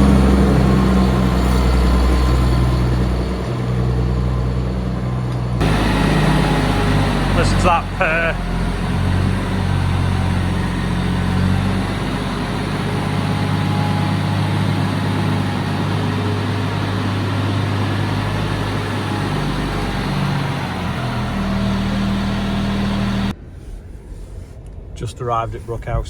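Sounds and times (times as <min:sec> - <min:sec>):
tractor diesel engine purring: 0:00.0 - 0:23.4.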